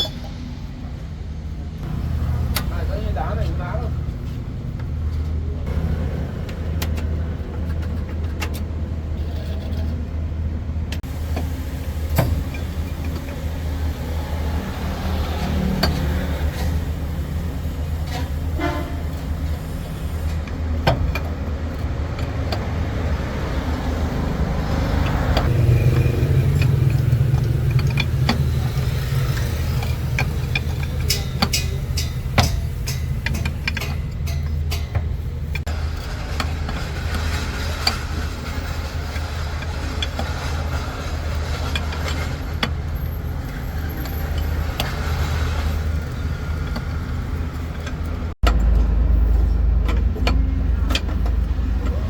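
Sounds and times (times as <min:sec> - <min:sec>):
truck engine idling: 0:00.0 - 0:52.0
sharp clicks and knocks: 0:04.8 - 0:17.4, 0:18.0 - 0:52.0.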